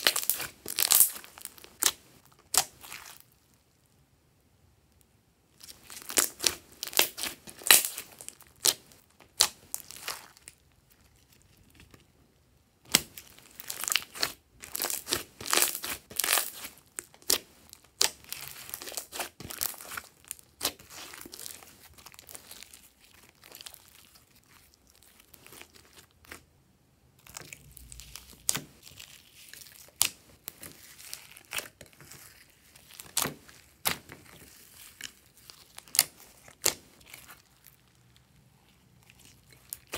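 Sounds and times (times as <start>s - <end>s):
hands squishing sticky slime: 0.0s - 3.6s, 5.6s - 11.9s, 12.8s - 26.5s, 27.2s - 39.9s.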